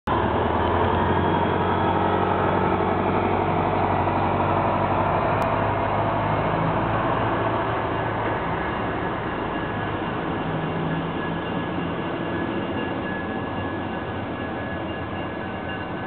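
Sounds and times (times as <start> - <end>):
large engine droning: 0.1 - 16.0.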